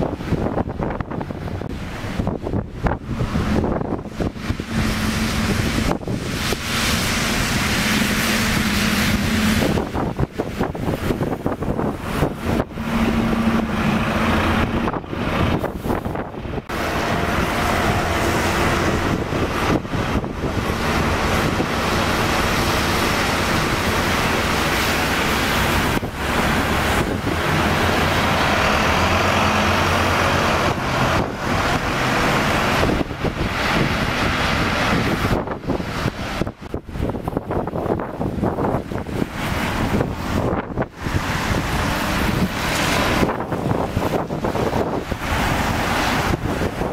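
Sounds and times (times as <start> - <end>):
buses and road traffic passing: 0.0 - 46.9
low engine hum: 0.0 - 46.9.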